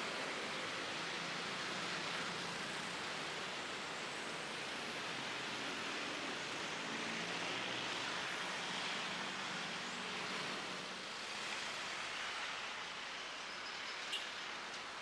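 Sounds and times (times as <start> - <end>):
distant road traffic hiss: 0.0 - 15.0.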